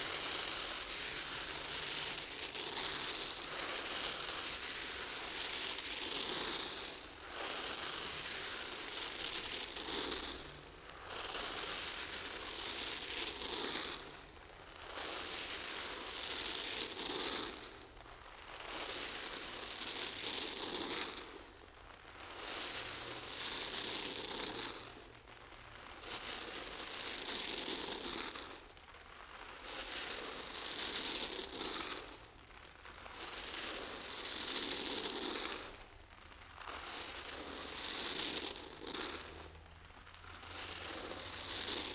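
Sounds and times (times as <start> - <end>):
rice grains pattering on paper: 0.0 - 41.9.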